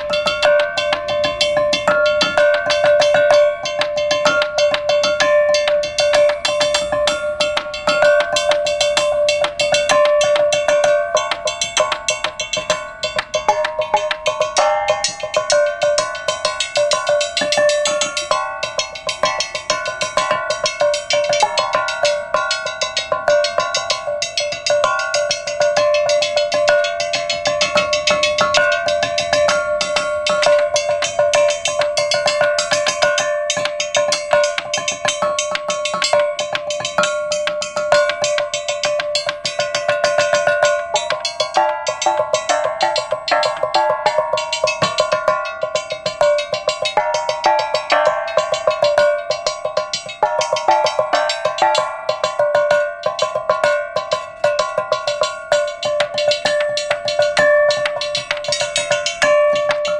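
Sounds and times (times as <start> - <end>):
mallets striking metal tubing: 0.0 - 59.9.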